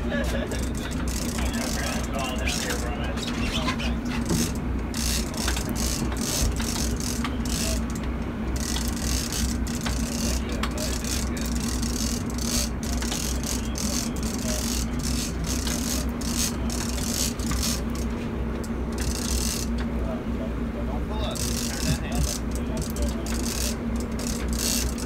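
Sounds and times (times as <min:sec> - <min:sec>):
boat engine drone: 0:00.0 - 0:25.0
fishing reel gears ratcheting: 0:00.4 - 0:19.8, 0:21.3 - 0:25.0.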